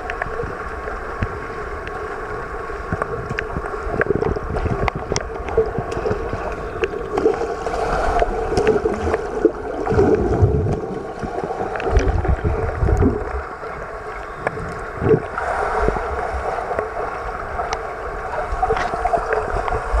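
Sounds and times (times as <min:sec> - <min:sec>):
low rumbling swells of bubbles: 0:00.0 - 0:20.0
underwater hum and wash: 0:00.0 - 0:20.0.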